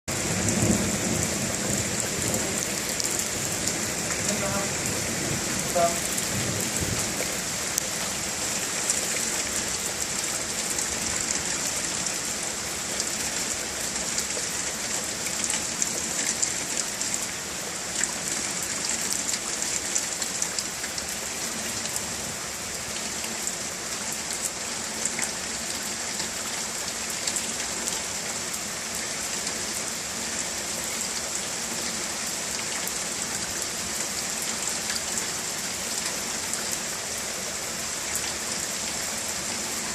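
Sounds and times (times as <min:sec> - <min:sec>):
heavy rain on hard surfaces: 0:00.1 - 0:39.9.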